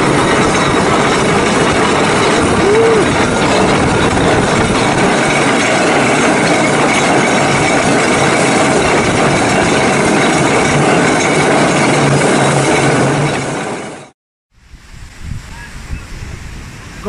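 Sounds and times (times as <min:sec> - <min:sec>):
pulley wheels rattling on ropes: 0:00.0 - 0:14.1.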